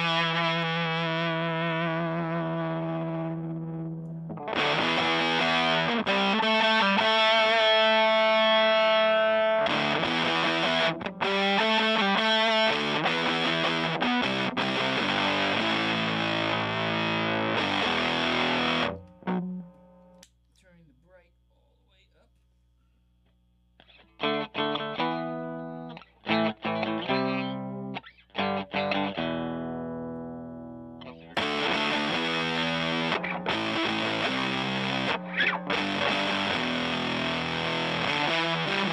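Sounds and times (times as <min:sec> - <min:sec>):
fuzz-distorted electric guitar: 0:00.0 - 0:20.2, 0:23.8 - 0:38.9.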